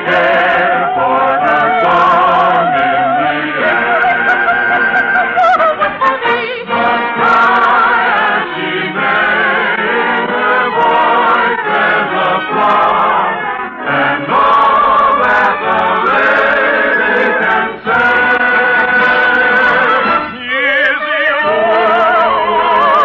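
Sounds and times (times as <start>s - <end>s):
choir singing: 0.0s - 23.0s
orchestra playing: 0.0s - 23.0s.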